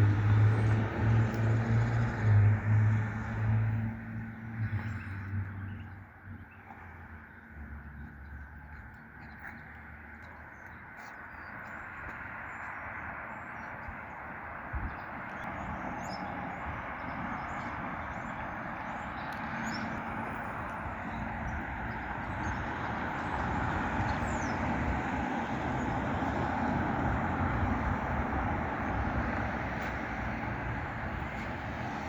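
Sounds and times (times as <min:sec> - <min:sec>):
road vehicle rumble: 0:00.0 - 0:32.0.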